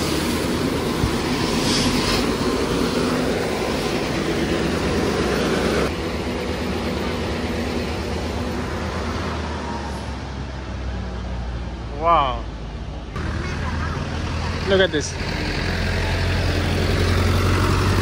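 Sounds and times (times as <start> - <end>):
truck engine running: 0.0 - 11.2, 12.6 - 18.0.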